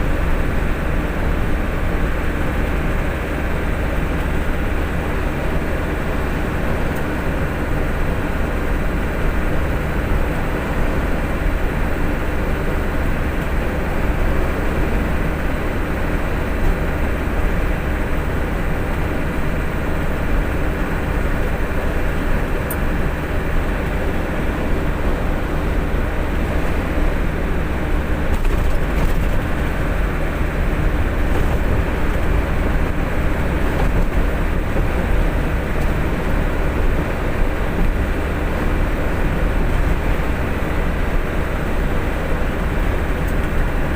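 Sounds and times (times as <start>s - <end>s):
truck engine running: 0.0s - 43.9s.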